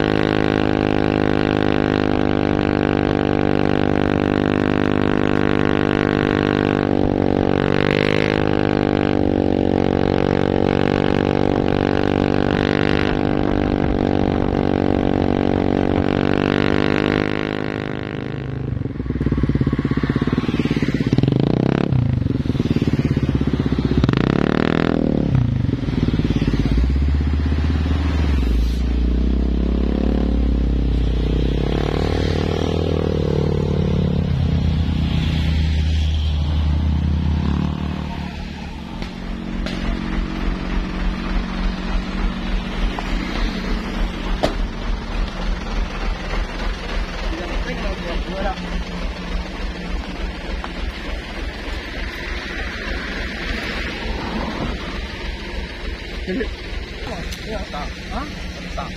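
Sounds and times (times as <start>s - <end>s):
engine revving: 0.0s - 58.9s
vehicle engines on road: 0.0s - 58.9s.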